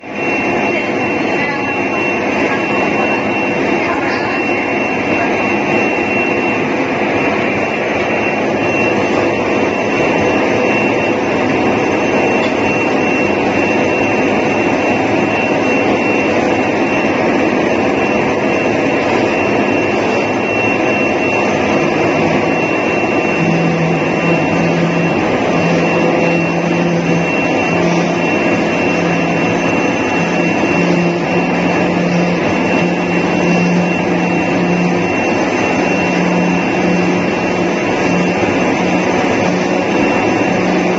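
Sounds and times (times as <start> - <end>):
low machine hum: 0.0 - 40.9
vacuum blower rushing and whining: 0.0 - 40.9.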